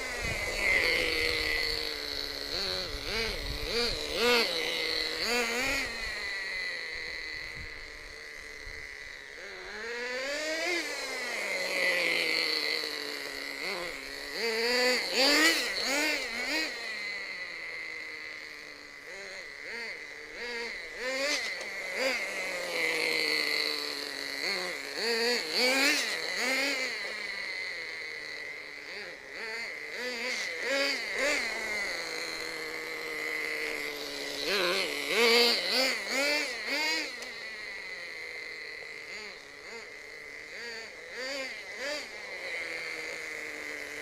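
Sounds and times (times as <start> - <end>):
small nitro engine revving: 0.0 - 44.0.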